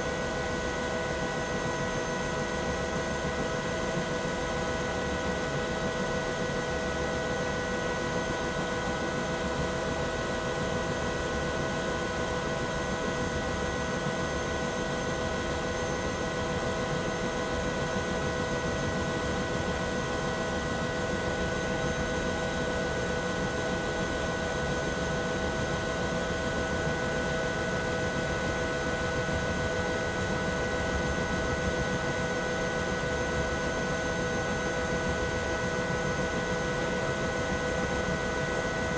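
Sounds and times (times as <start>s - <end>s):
helicopter turbine whine: 0.0s - 38.9s.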